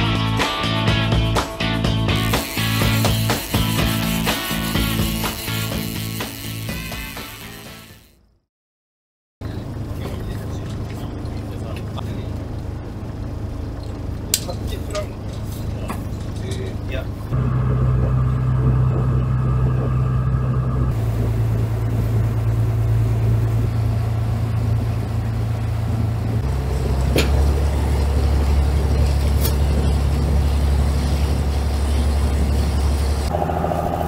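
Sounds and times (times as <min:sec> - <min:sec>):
boat engine droning: 0:00.0 - 0:08.2, 0:09.4 - 0:34.0.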